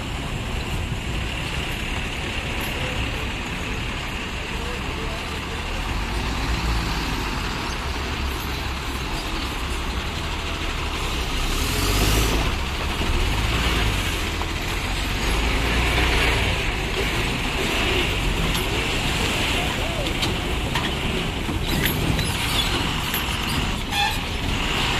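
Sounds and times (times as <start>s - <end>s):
diesel truck engine rumbling: 0.0s - 24.9s.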